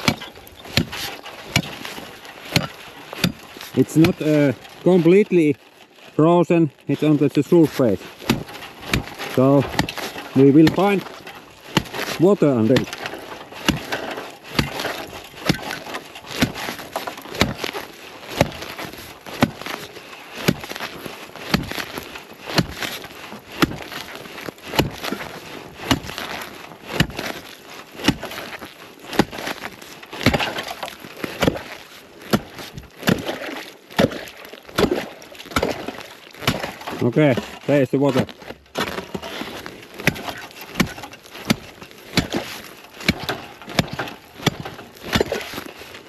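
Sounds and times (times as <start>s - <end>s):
metal blade chopping ice: 0.0s - 5.2s, 7.0s - 46.0s
ice crunching and splintering: 0.0s - 46.0s.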